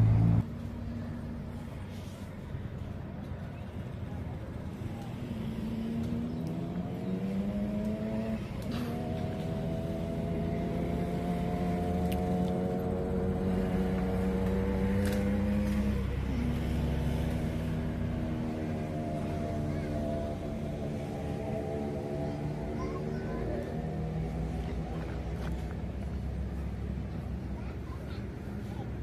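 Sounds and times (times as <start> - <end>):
vehicle engine under load: 0.0 - 29.0.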